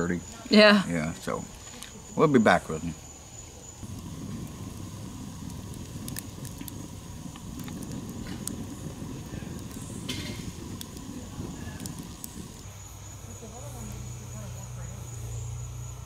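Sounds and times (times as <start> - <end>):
campfire flames rushing: 0.0 - 16.0
fire crackles and pops: 0.0 - 16.0.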